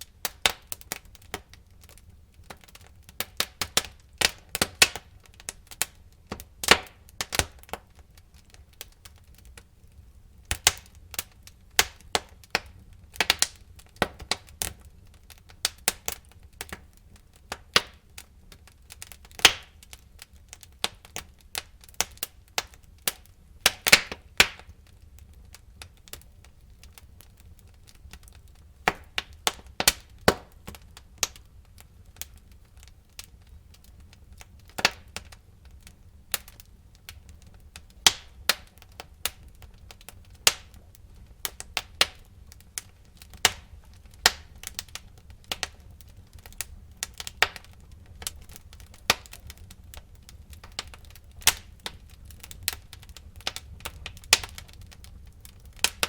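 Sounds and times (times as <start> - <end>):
burning wood crackling and popping: 0.0 - 56.0.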